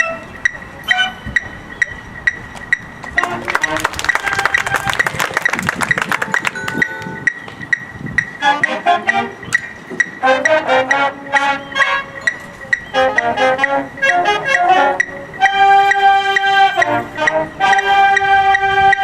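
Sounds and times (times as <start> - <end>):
marching band playing: 0.0 - 19.0.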